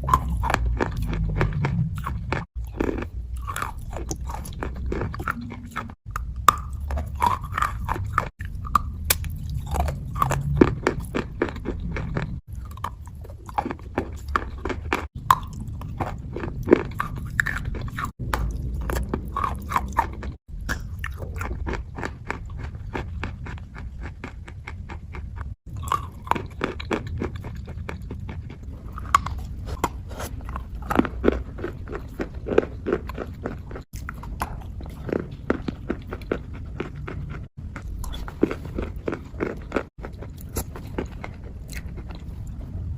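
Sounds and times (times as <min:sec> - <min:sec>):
wet crunchy chewing: 0:00.0 - 0:42.9.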